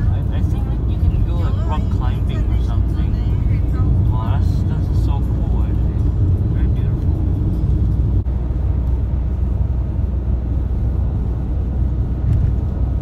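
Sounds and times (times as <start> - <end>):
bus road and engine noise: 0.0 - 13.0.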